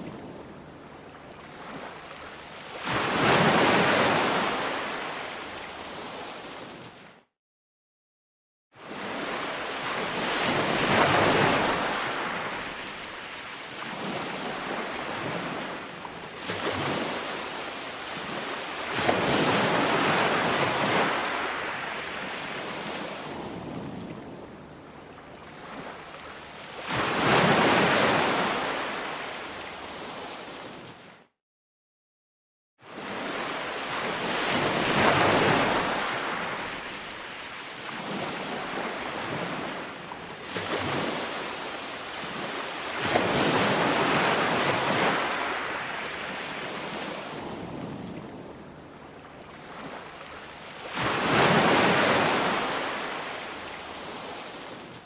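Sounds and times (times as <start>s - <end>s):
ocean waves breaking on shore: 0.0s - 7.3s, 8.8s - 31.3s, 32.8s - 55.0s.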